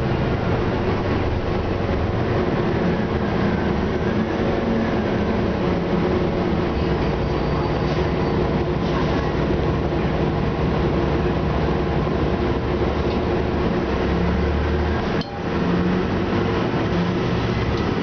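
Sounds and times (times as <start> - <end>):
bus engine drone from inside: 0.0 - 18.0.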